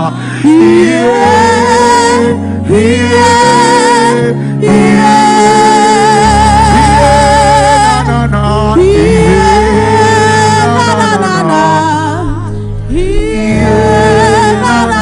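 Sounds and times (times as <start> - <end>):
person singing gospel with vibrato: 0.0 - 15.0
sustained accompanying chords: 0.0 - 15.0.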